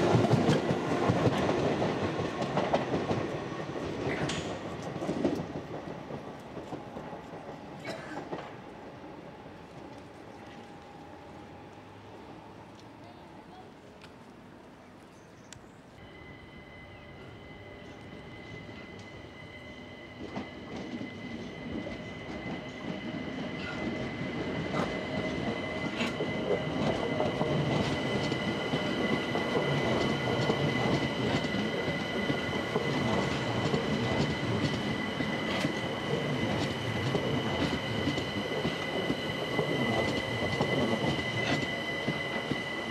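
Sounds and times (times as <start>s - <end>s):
electric train rumble: 0.0s - 12.9s, 16.0s - 42.9s.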